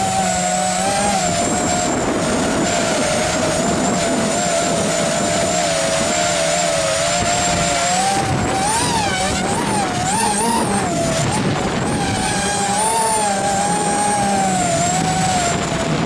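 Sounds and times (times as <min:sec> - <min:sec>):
drone motors whining: 0:00.0 - 0:16.0
wind rushing over microphone: 0:00.0 - 0:16.0.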